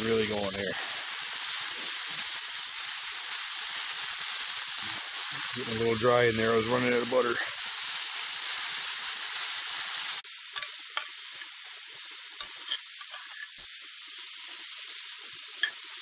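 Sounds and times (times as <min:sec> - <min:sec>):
food sizzling in a pan: 0:00.0 - 0:16.0
loud hissing of melting snow: 0:00.0 - 0:16.0.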